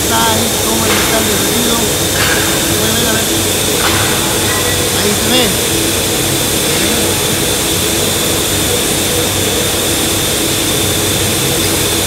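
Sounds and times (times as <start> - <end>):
casting machinery roaring: 0.0 - 12.0
low hum: 0.0 - 12.0
thin high whine: 0.0 - 12.0.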